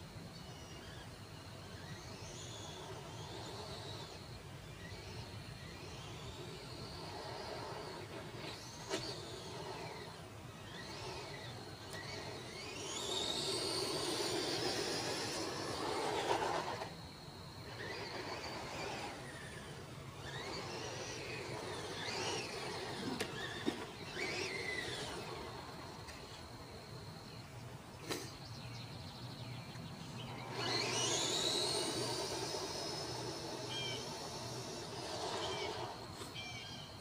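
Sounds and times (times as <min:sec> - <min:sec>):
toy truck motor whining: 0:00.0 - 0:27.4, 0:30.2 - 0:37.0.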